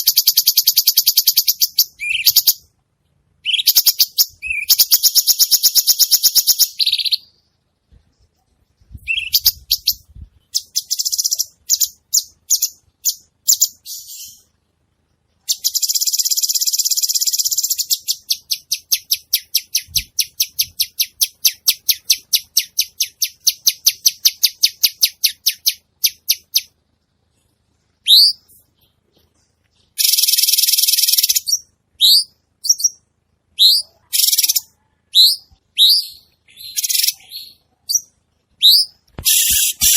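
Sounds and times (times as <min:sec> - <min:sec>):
songbird chattering and trilling: 0:00.0 - 0:02.7, 0:03.4 - 0:07.6, 0:08.9 - 0:14.5, 0:15.4 - 0:26.8, 0:28.0 - 0:39.9.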